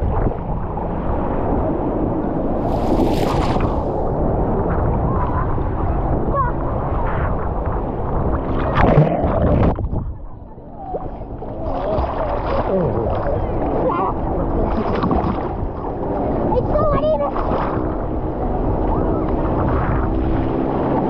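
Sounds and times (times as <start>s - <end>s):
muffled underwater churning: 0.0s - 21.0s.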